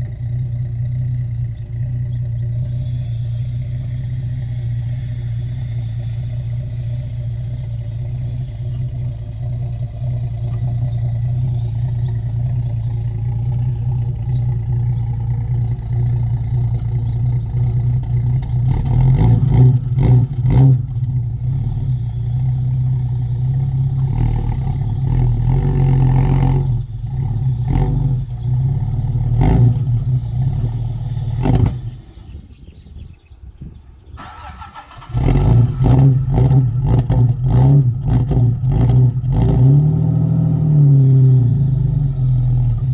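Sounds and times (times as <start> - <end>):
car engine running and stumbling: 0.0 - 32.8, 34.2 - 42.9.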